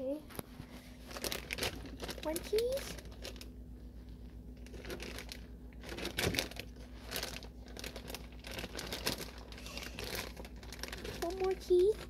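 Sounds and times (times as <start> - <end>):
low steady hum: 0.0 - 12.0
plastic packaging crinkling: 0.9 - 12.0.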